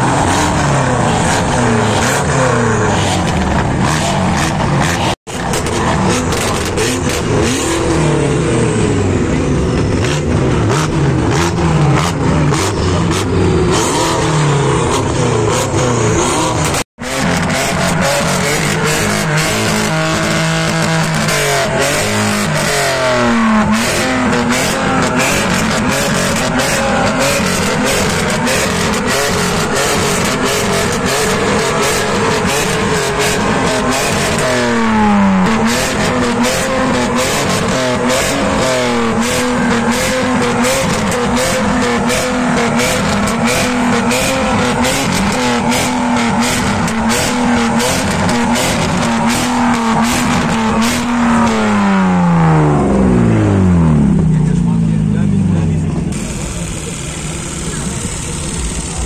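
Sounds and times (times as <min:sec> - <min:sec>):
car engine revving: 0:00.0 - 0:59.0
exhaust cracks: 0:00.0 - 0:59.0.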